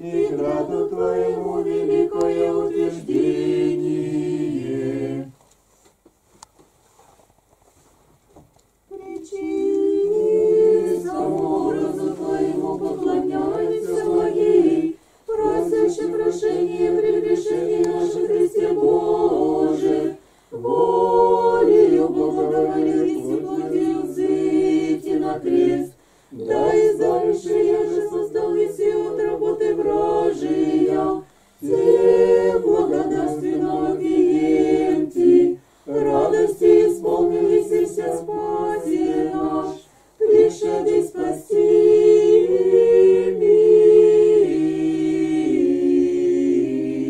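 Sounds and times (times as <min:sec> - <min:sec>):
group singing a hymn: 0:00.0 - 0:05.4, 0:08.9 - 0:47.0.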